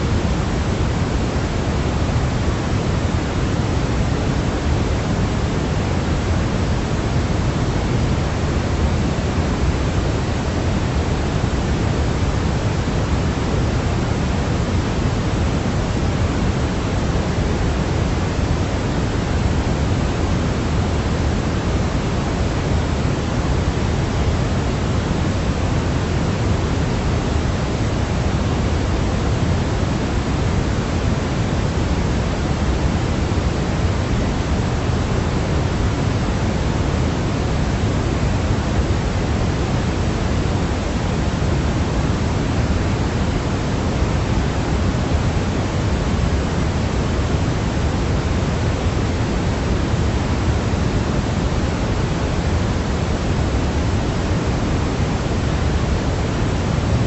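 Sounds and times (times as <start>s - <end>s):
steady pink noise: 0.0s - 57.0s.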